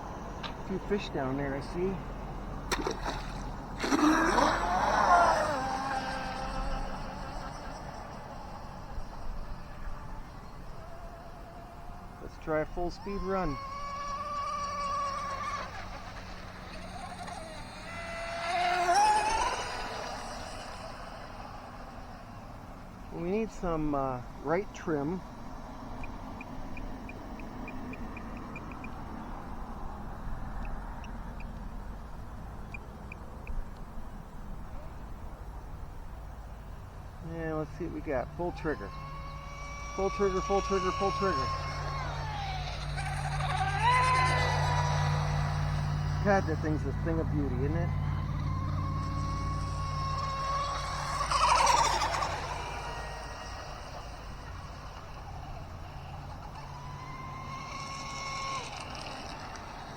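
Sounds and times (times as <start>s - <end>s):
model boat motor whining: 0.0s - 59.9s
steady low background noise: 0.0s - 59.9s
hissing water rush: 0.6s - 24.9s, 35.5s - 59.9s.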